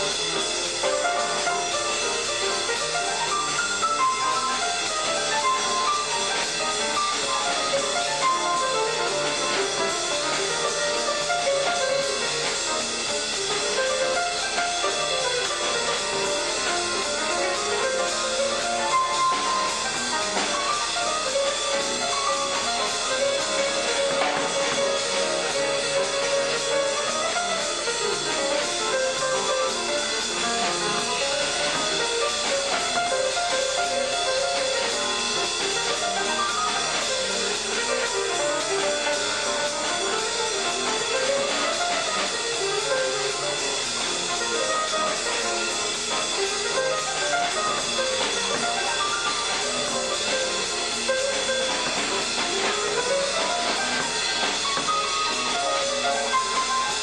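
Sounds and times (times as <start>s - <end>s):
drum kit: 0.0s - 57.0s
jazz lead melody: 0.0s - 57.0s
piano: 0.0s - 57.0s.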